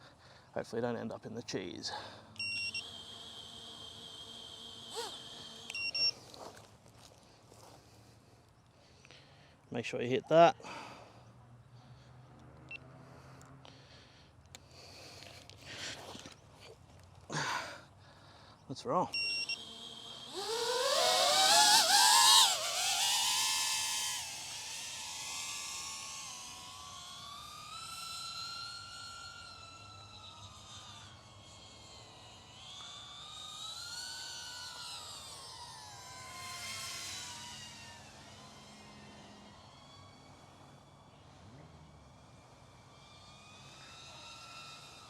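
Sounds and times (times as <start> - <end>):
drone motors whining: 0.8 - 9.2, 11.8 - 45.0.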